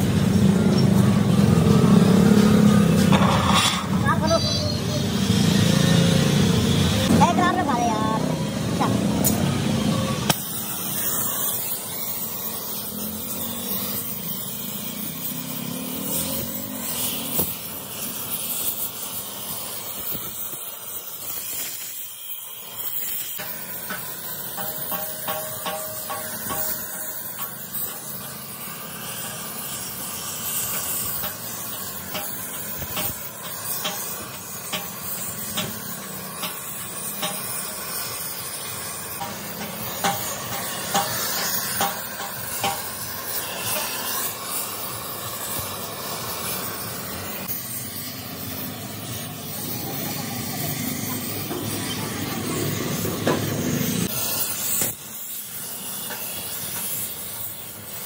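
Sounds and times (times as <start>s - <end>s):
gas torch flame hissing: 0.0s - 58.0s.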